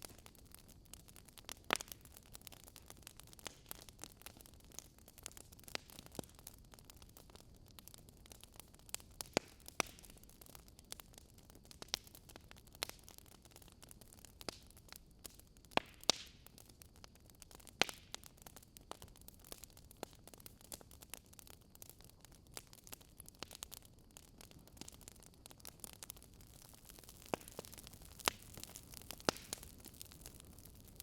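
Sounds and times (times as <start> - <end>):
campfire crackling: 0.0 - 31.0
faint steady hiss: 0.0 - 31.0.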